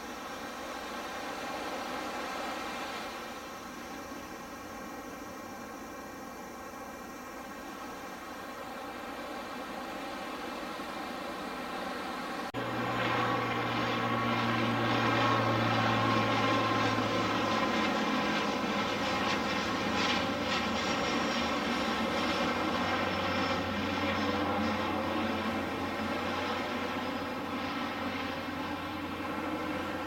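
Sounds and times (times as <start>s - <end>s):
turboprop airliner flying low: 0.0s - 30.0s.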